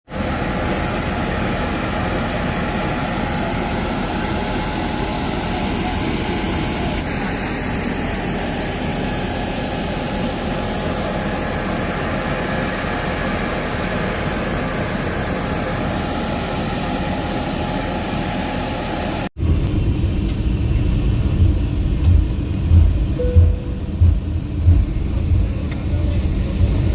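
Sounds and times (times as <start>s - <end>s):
jet engines and rushing air: 0.1s - 26.9s.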